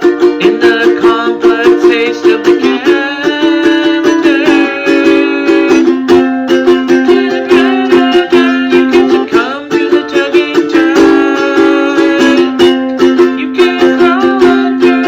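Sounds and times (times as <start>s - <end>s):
ukulele strumming: 0.0s - 15.0s.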